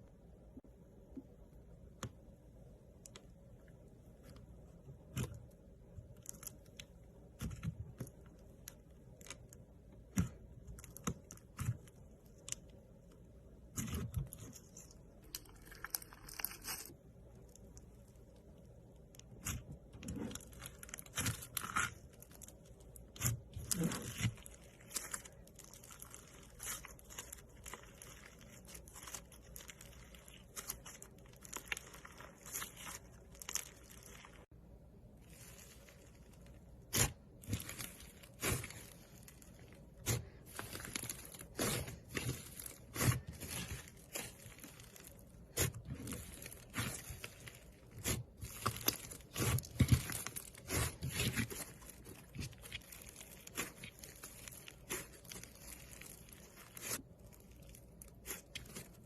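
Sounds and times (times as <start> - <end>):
slime crackling and popping: 5.0 - 34.5, 35.2 - 59.0.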